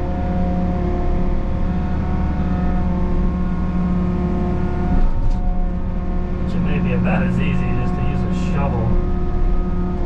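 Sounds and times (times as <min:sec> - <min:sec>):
constant hydraulic whine: 0:00.0 - 0:10.0
excavator diesel engine rumble: 0:00.0 - 0:10.0.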